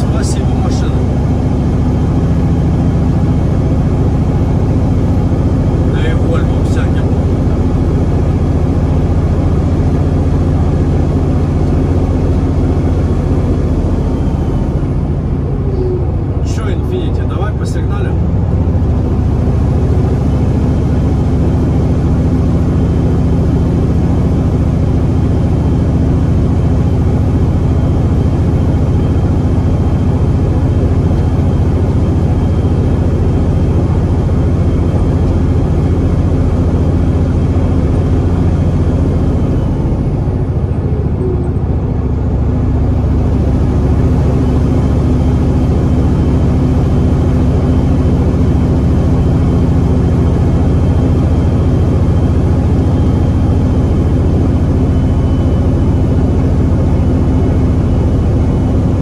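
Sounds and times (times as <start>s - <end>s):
diesel engine drone: 0.0s - 59.0s
road and tyre noise: 0.0s - 59.0s.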